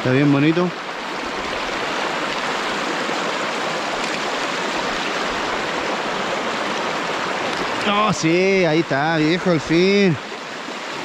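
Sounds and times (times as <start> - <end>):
river water flowing over stones: 0.0 - 11.0.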